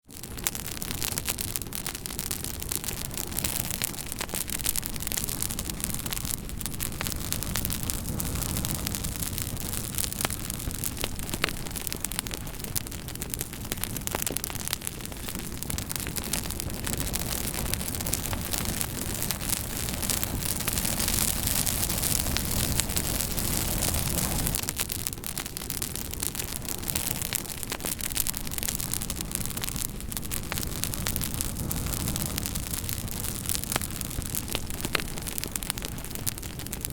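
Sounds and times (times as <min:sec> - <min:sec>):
burning wood crackling and popping: 0:00.0 - 0:36.9
campfire hissing: 0:00.1 - 0:36.9.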